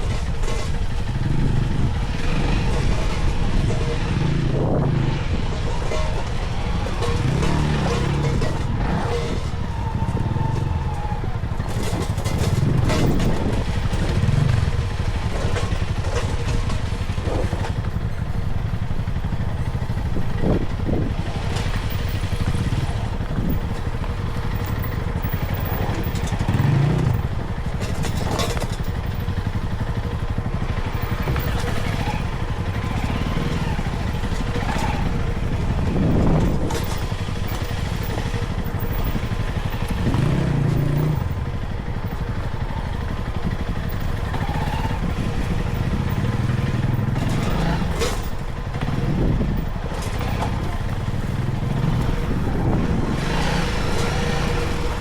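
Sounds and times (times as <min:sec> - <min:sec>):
knocks and rattles: 0:00.0 - 0:55.0
vehicle engine revving: 0:00.0 - 0:55.0.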